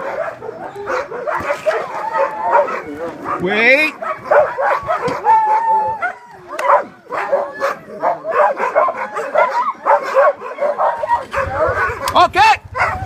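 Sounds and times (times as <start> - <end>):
dog howling: 0.0 - 13.0
dogs barking and yipping: 0.0 - 13.0.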